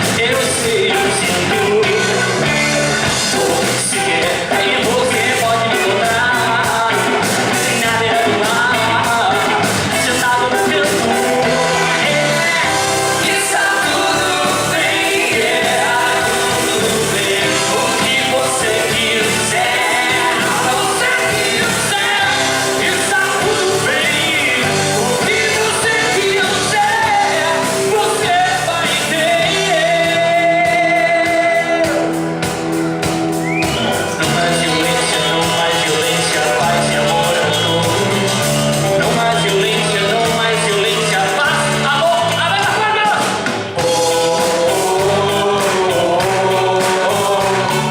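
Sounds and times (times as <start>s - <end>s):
band playing upbeat song: 0.0s - 47.9s
lead singer singing: 0.0s - 47.9s.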